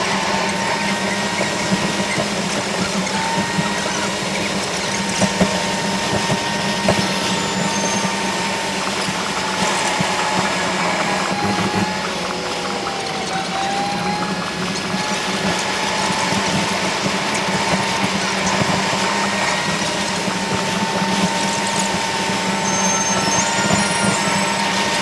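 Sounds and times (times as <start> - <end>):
faint wavering whine: 0.0 - 25.0
machine running with hum: 0.0 - 25.0.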